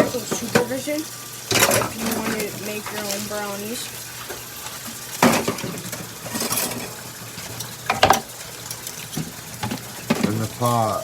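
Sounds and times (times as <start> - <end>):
pot and bowl clattering: 0.0 - 11.0.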